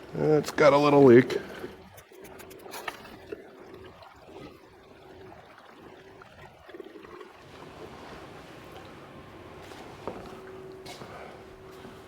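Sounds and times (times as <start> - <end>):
gasoline trickling into tank: 1.3 - 12.0.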